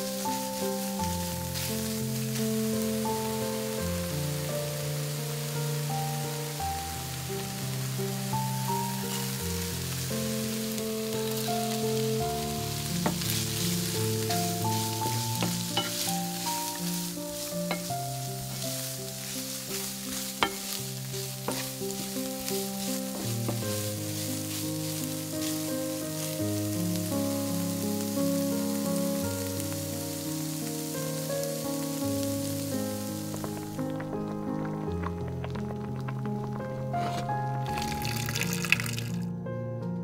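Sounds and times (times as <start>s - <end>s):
food sizzling in a frying pan: 0.0s - 39.3s.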